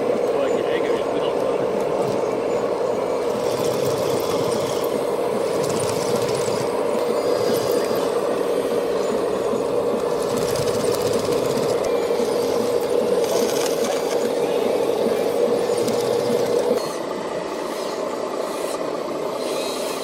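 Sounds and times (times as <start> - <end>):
electric motors whining: 0.0 - 20.0
motor and gear whir: 0.0 - 20.0.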